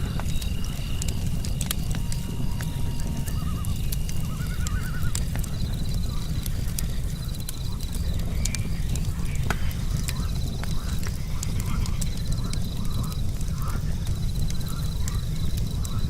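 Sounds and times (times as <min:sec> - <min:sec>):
campfire crackling: 0:00.0 - 0:16.0
crickets trilling: 0:00.0 - 0:16.0.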